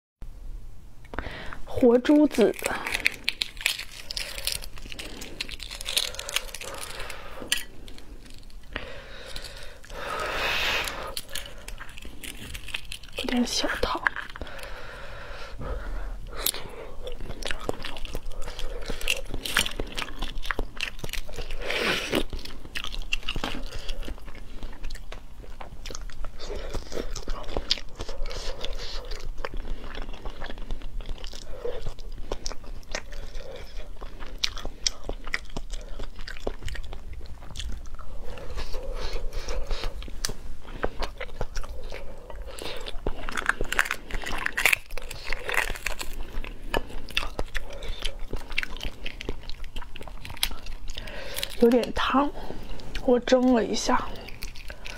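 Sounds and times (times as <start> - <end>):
eggshell cracking and peeling: 1.1 - 15.6, 16.2 - 54.9
chewing and crunching: 1.5 - 54.9.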